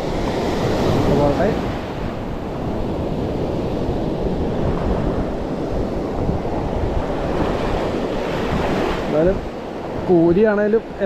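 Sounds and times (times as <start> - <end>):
surf washing up the beach: 0.0 - 11.0
wind buffeting the microphone: 0.0 - 11.0.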